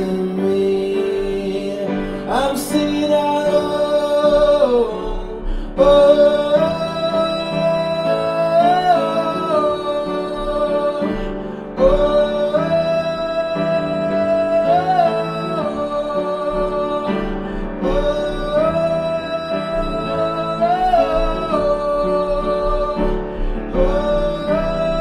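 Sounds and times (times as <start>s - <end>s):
man singing long notes: 0.0s - 25.0s
piano chords: 0.0s - 25.0s.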